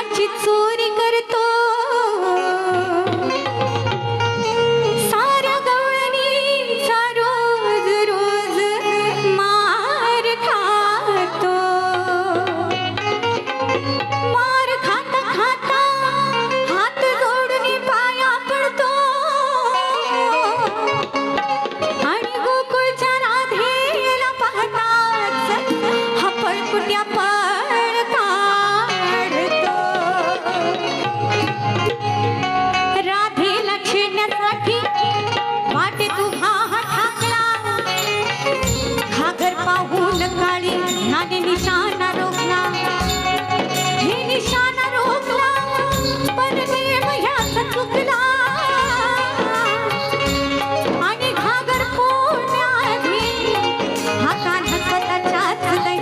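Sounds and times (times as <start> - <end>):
ornamented melodic lead: 0.0 - 56.0.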